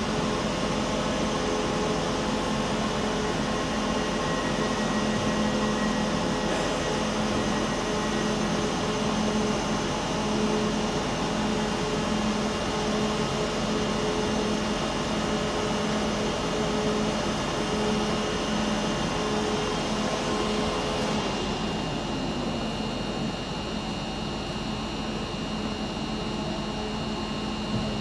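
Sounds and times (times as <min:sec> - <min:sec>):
train mechanical hum: 0:00.0 - 0:28.0.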